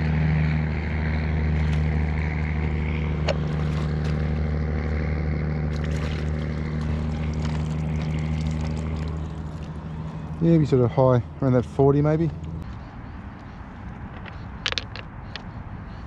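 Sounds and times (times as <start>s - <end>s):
motorboat engine drone: 0.0s - 16.0s.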